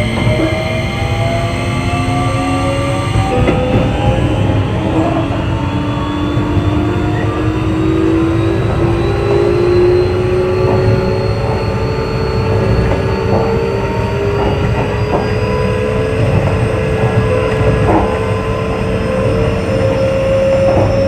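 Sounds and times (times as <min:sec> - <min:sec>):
traction motor whine rising: 0:00.0 - 0:21.0
wheels rumbling on rails: 0:00.0 - 0:21.0.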